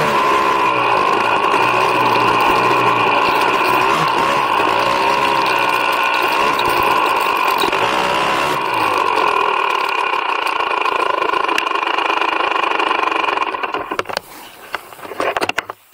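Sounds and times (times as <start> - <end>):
snowbike engine running: 0.0 - 15.0.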